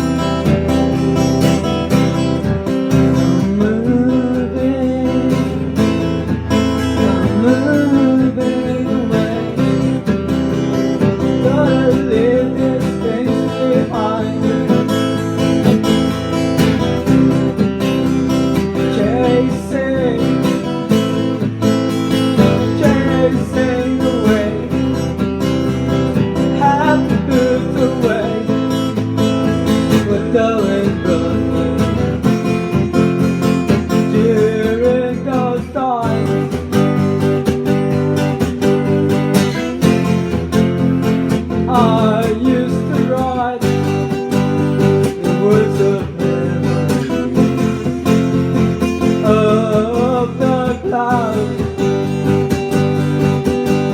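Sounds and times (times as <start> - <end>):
person singing: 0.0 - 16.3, 17.0 - 38.4, 39.5 - 53.9
acoustic guitar strumming: 0.0 - 53.9.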